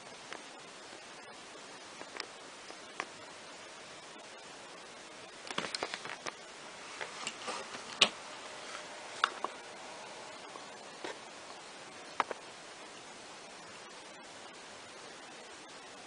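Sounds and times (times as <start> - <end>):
ozone generator hissing: 0.0 - 16.0.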